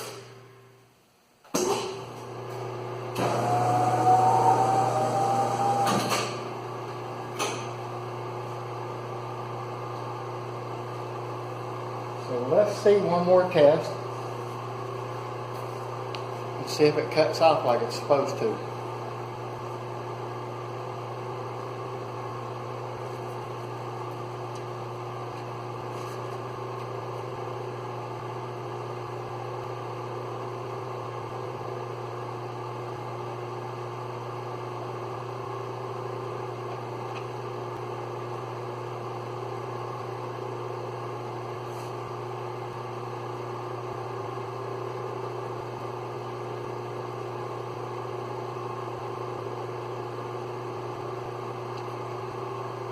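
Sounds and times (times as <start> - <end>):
paper cutter motor humming: 2.3 - 52.9.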